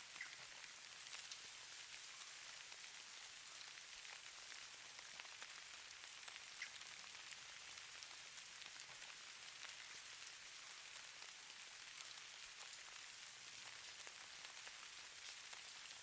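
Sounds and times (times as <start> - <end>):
faint steady hiss: 0.0 - 16.0
snowflakes ticking: 0.1 - 16.0.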